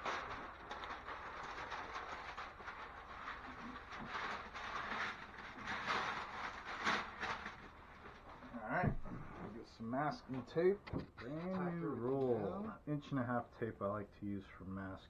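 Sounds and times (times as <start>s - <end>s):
paper and plastic sheeting rustling: 0.0s - 12.6s.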